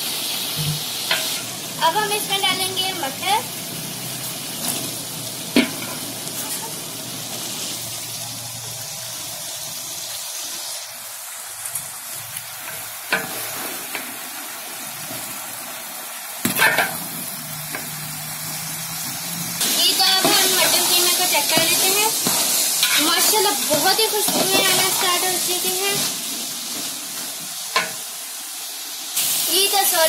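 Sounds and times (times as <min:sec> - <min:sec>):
food sizzling in a pot: 0:00.0 - 0:30.0.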